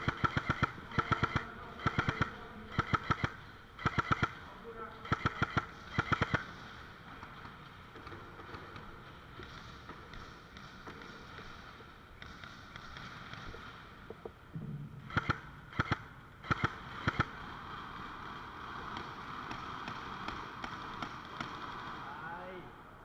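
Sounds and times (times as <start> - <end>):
airsoft guns firing: 0.0 - 14.2, 15.0 - 22.7
steady background hiss: 0.0 - 23.0.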